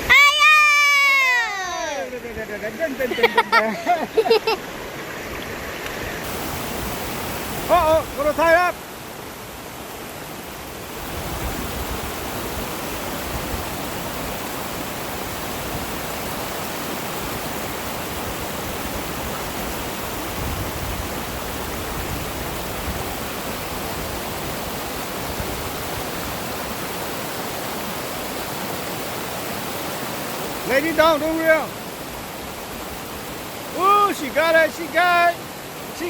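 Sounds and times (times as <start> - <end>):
waterfall rushing water: 0.0 - 36.0.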